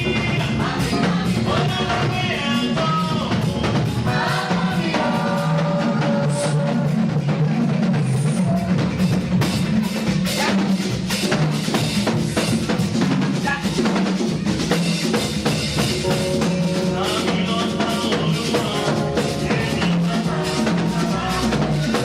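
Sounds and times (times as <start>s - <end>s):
drum kit beat: 0.0s - 22.0s
live praise music: 0.0s - 22.0s.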